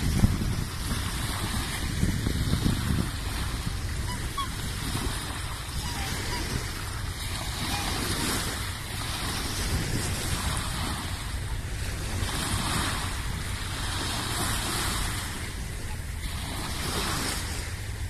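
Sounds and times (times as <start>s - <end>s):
small waves lapping: 0.0s - 18.0s
wind on microphone: 0.0s - 18.0s.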